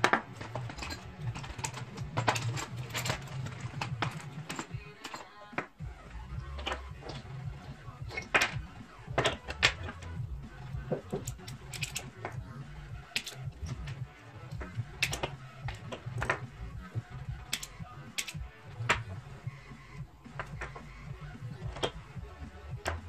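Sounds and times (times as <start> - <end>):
hand tools clicking and tapping: 0.0 - 19.2, 20.2 - 23.0.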